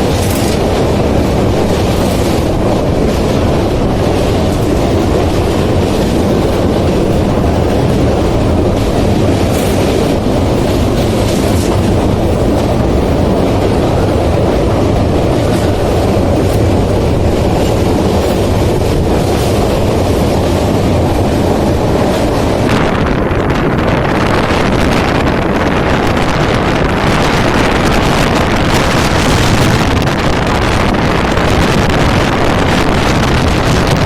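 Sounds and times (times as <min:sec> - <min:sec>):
train wheels on track: 0:00.0 - 0:34.0.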